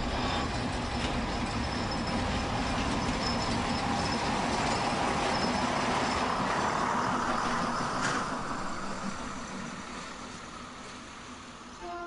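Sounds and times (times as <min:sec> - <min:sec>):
diesel railbus engine drone: 0:00.0 - 0:12.0.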